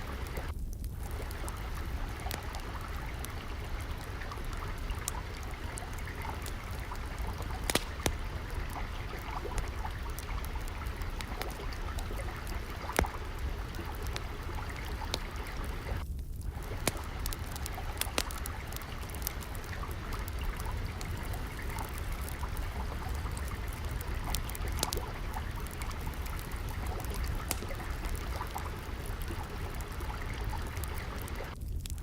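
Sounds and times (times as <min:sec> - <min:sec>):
water flowing and trickling: 0:00.0 - 0:32.0
wood fire crackling: 0:00.0 - 0:32.0.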